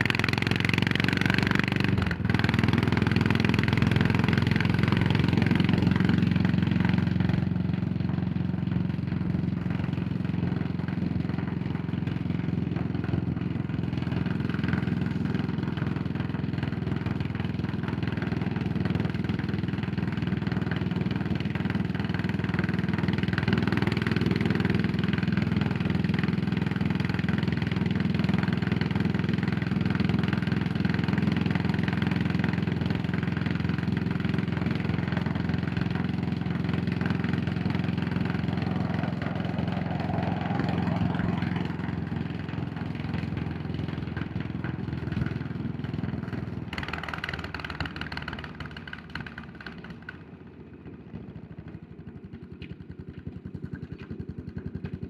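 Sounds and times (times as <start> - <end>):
motorcycle engine running and idling: 0.0 - 55.0.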